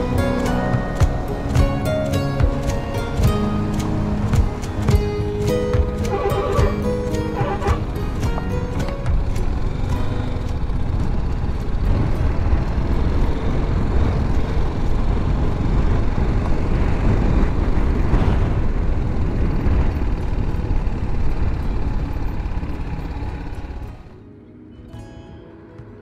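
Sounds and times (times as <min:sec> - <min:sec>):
wind noise on microphone: 0:00.0 - 0:24.0
motorcycle engine running: 0:00.0 - 0:24.2.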